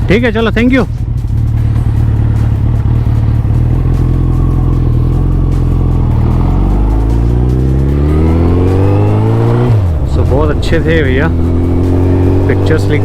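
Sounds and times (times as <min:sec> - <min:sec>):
motorcycle engine revving: 0:00.9 - 0:13.0.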